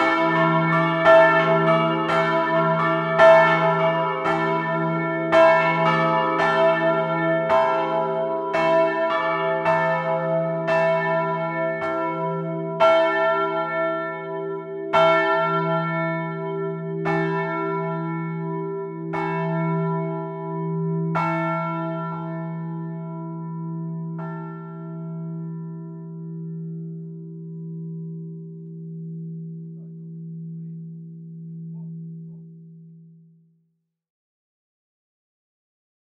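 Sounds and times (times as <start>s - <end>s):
church bells ringing: 0.0s - 33.1s.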